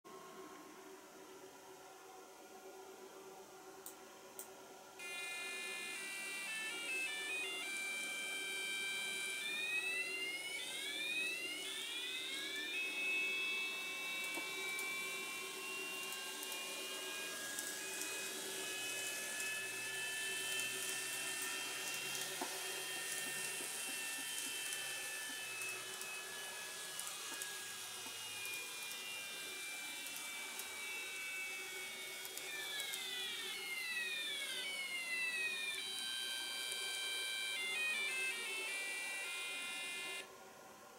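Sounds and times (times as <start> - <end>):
model train motor whining: 5.0 - 40.3.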